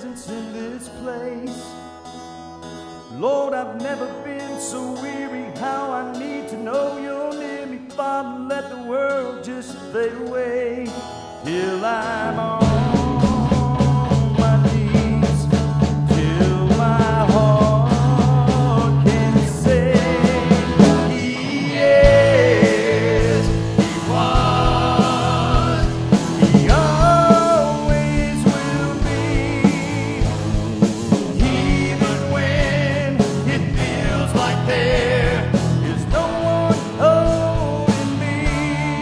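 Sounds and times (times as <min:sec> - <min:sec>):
band playing worship song: 0:00.0 - 0:39.0.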